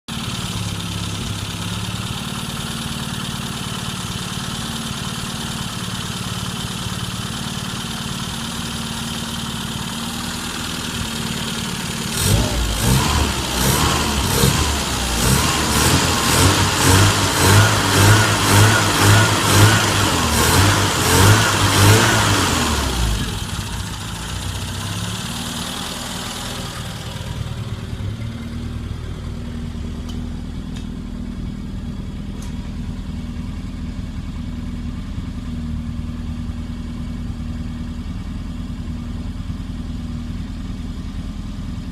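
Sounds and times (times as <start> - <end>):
car engine idling and revving: 0.1 - 41.9.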